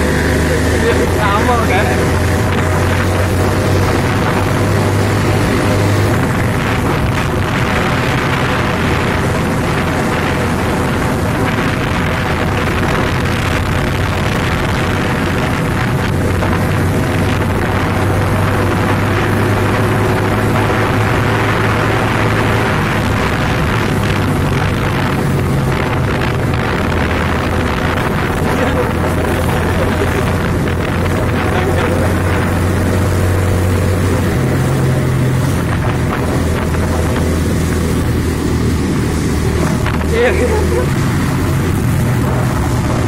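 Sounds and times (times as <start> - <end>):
motorcycle engine cruising: 0.0 - 43.0
wind rush on microphone: 0.0 - 43.0.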